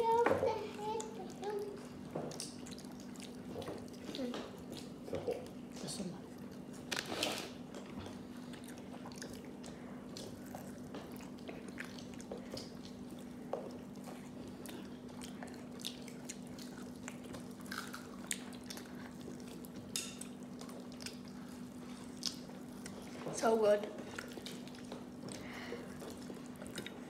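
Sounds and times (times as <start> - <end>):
mouth chewing fried chicken: 0.8 - 23.2, 23.9 - 27.0.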